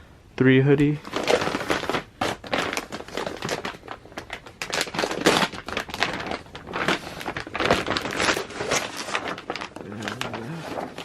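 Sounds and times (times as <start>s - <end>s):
bag packaging crinkling: 0.9s - 11.0s.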